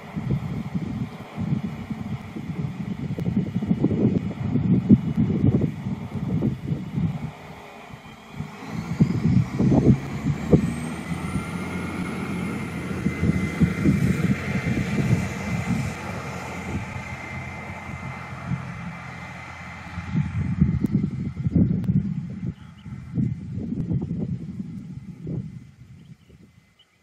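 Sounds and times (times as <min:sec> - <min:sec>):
tram drive whining: 0:00.0 - 0:25.7
wind buffeting microphone: 0:00.0 - 0:26.8.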